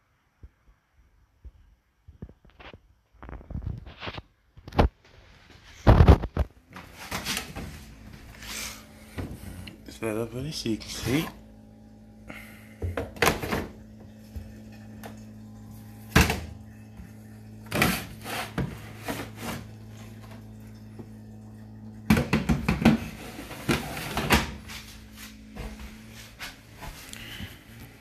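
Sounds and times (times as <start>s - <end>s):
low appliance hum: 0.0s - 28.0s.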